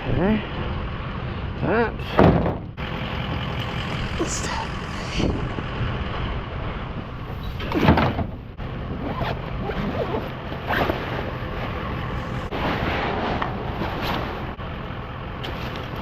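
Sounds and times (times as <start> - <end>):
vehicle engine idling: 0.0 - 12.8, 13.4 - 16.0.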